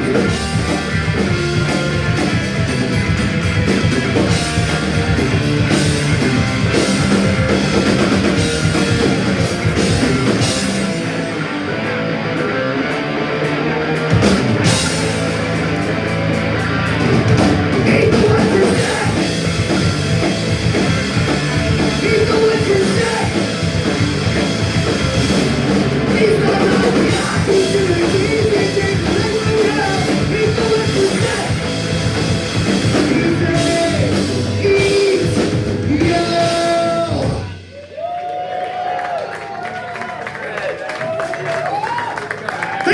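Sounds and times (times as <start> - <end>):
punk rock band playing live: 0.0 - 37.8.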